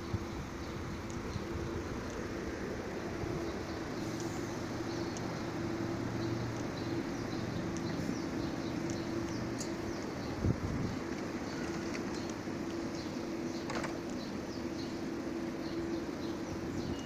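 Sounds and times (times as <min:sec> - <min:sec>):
electric train humming: 0:00.0 - 0:17.0
small birds chirping: 0:00.0 - 0:17.0.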